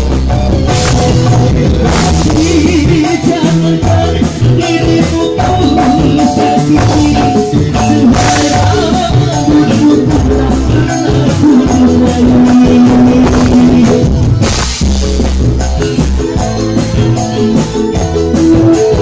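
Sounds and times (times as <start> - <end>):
person singing: 0.0 - 14.4, 16.2 - 19.0
rock band playing: 0.0 - 19.0.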